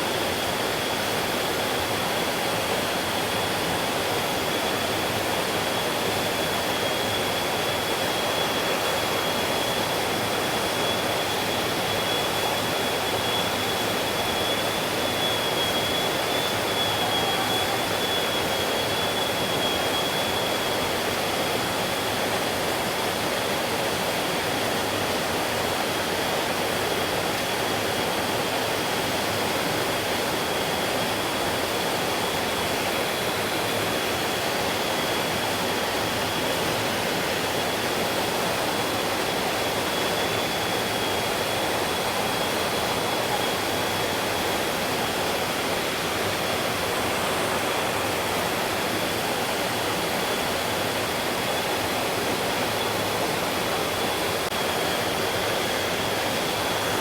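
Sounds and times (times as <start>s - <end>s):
thin high whine: 0.2s - 22.0s, 27.1s - 57.0s.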